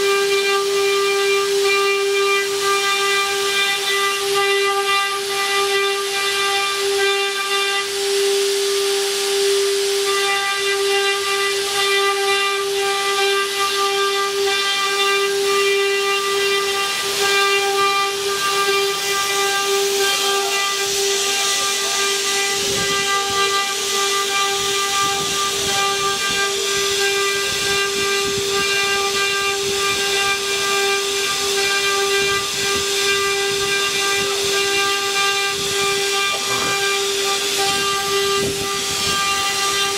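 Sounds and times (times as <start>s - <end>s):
cnc router spindles whining: 0.0s - 39.9s
rough irregular cutting noise: 0.0s - 39.9s.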